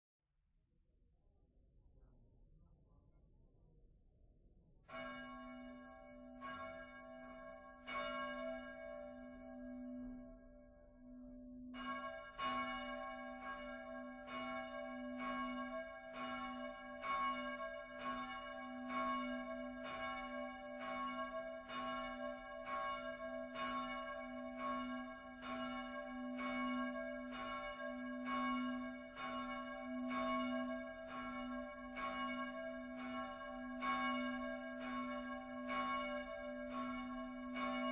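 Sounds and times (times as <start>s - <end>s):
swinging church bells: 4.9s - 37.9s.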